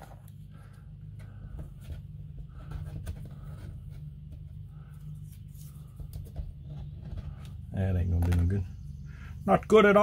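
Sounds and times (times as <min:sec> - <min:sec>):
low hum: 0:00.0 - 0:10.0
rubbing and scraping on glass: 0:00.0 - 0:10.0.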